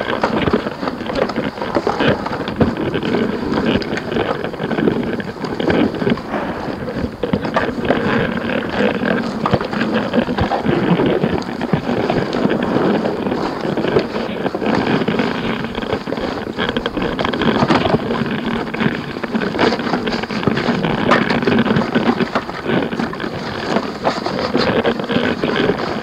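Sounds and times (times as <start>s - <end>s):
rumbling noise texture with crackles: 0.0s - 26.0s.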